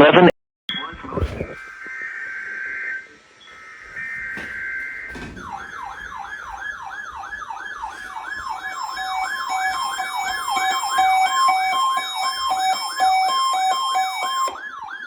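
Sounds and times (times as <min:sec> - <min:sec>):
steady alarm tones: 0:00.9 - 0:15.0
falling wail alert tone: 0:01.6 - 0:14.6.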